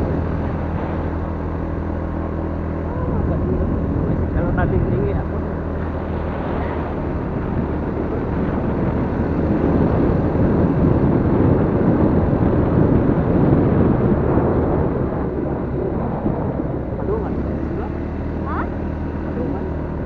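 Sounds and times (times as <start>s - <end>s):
vehicle driving rumble: 0.0s - 20.0s.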